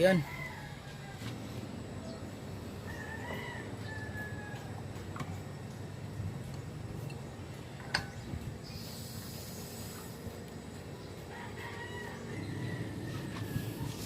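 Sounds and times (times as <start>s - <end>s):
refrigerator compressor hum: 0.0s - 14.0s.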